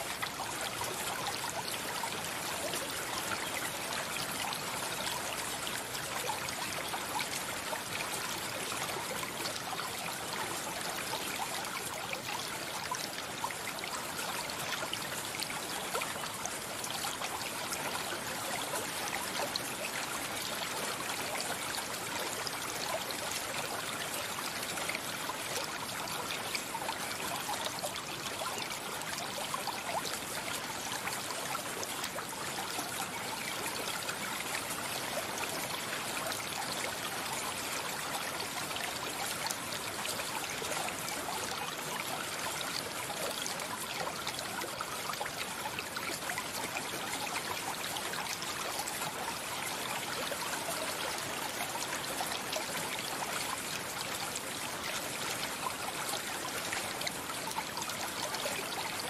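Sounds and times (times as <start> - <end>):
stream of running water: 0.0 - 59.0.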